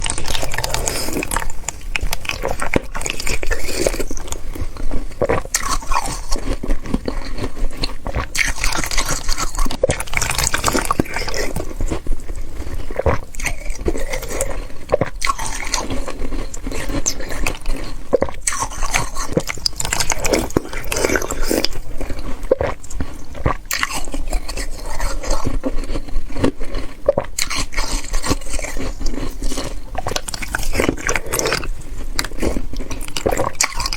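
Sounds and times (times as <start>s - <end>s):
slurping and crunching ice: 0.0s - 33.9s.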